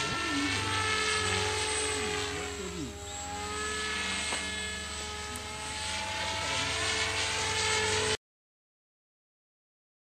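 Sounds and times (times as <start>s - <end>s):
model helicopter whine: 0.0s - 8.2s.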